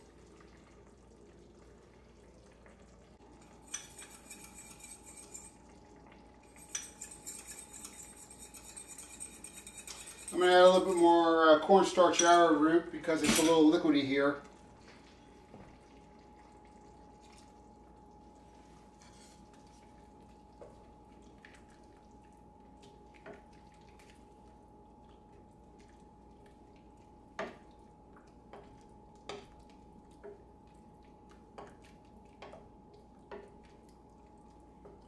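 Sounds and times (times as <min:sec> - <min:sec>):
stew simmering: 0:00.0 - 0:35.0.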